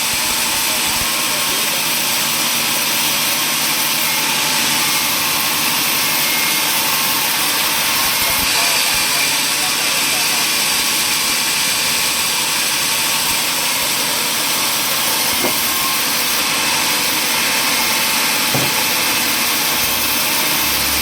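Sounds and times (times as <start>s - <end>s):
machine noise with hiss: 0.0s - 21.0s.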